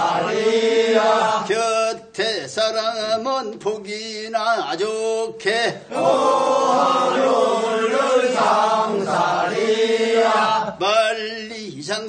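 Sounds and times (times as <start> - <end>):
men singing in unison: 0.0 - 12.0.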